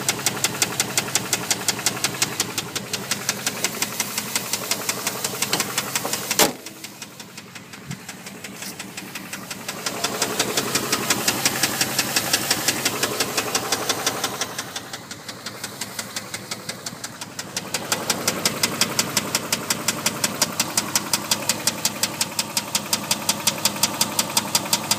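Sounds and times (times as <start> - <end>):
engine running with knock: 0.0 - 24.9.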